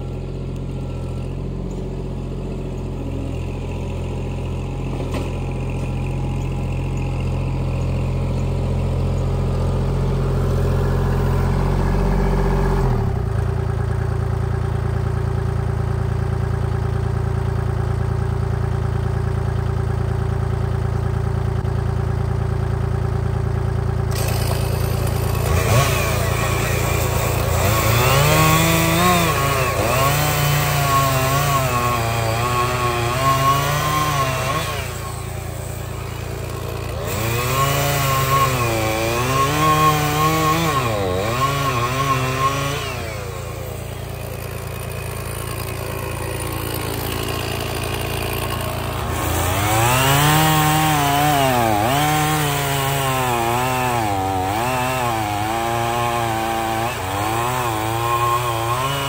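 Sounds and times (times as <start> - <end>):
engine revving: 0.0 - 14.2, 24.0 - 59.0
tractor diesel engine running: 0.0 - 59.0.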